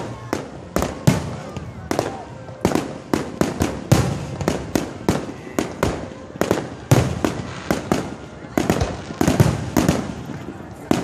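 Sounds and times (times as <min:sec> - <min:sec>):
fireworks booms and cracks: 0:00.0 - 0:11.0.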